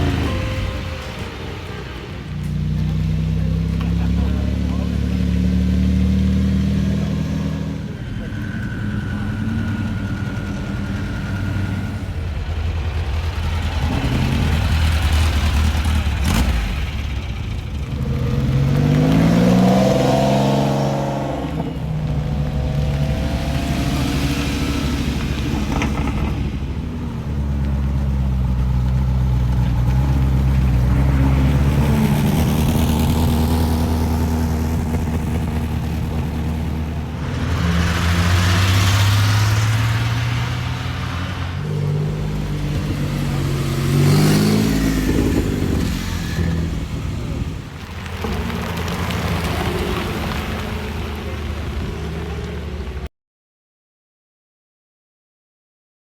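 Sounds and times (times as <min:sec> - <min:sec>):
car engines accelerating: 0:00.0 - 0:53.1.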